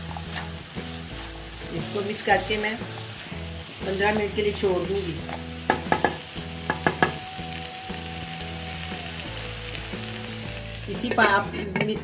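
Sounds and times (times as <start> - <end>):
vegetables sizzling in oil: 0.0 - 11.4.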